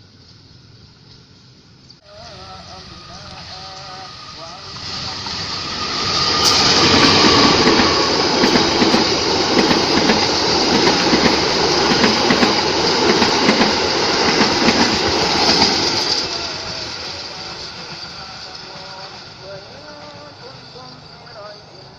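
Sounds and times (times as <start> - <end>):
wheel on rail hiss: 2.0 - 21.9
train wheels clattering: 3.2 - 21.6.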